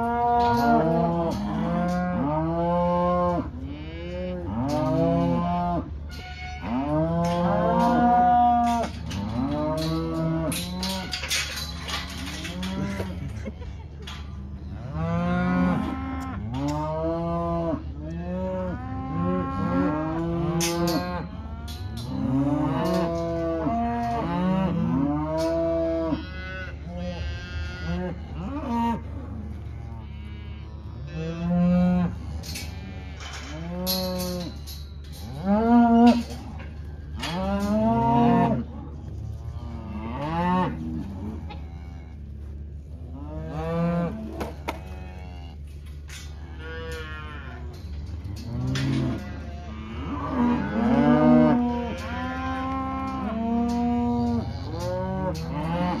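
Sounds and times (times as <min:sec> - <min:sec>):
cows and calves bawling: 0:00.0 - 0:56.0.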